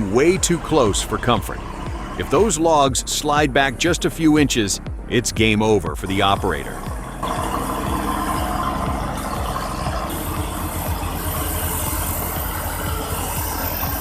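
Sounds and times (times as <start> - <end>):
bulldozer diesel engine rumbling: 0.0 - 14.0.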